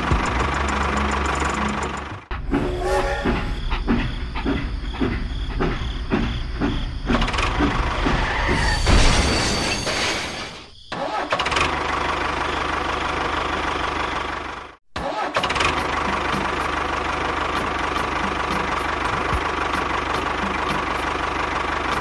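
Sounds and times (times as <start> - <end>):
engine chugging: 0.0 - 8.5, 11.0 - 14.8, 15.4 - 22.0.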